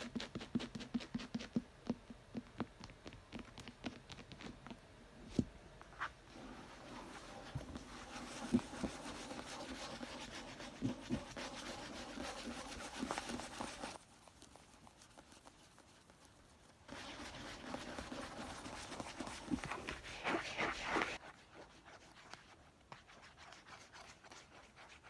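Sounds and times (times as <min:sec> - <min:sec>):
scratching on a book: 0:00.0 - 0:04.8, 0:06.0 - 0:25.0.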